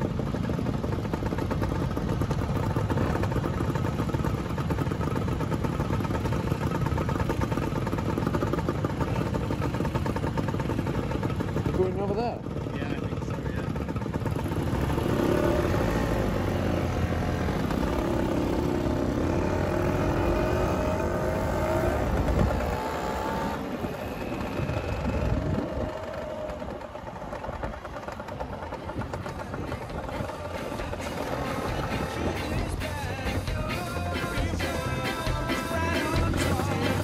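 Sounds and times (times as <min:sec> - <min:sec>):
road and wind noise: 0:00.0 - 0:37.0
scooter engines accelerating: 0:00.0 - 0:37.0.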